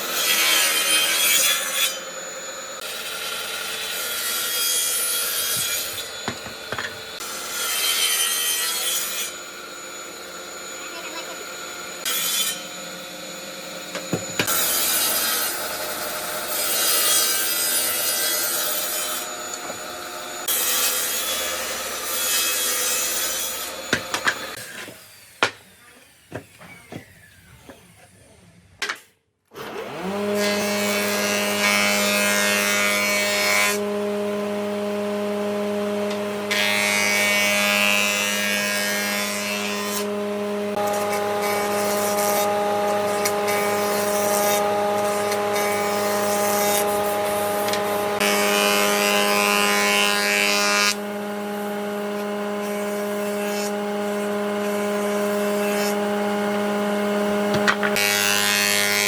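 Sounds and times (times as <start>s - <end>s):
power tool motor humming: 9.0s - 28.2s, 29.6s - 59.0s.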